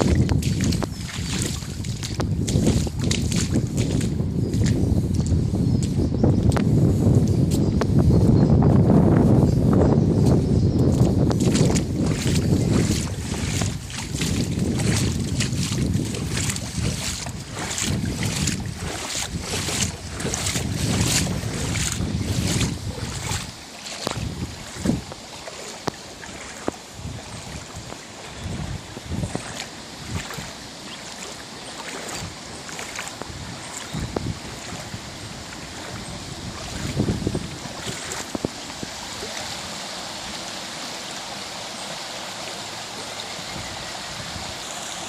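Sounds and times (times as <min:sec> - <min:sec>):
floodwater sloshing and splashing: 0:00.0 - 0:06.6, 0:10.8 - 0:45.0
wind buffeting microphone: 0:00.0 - 0:39.7.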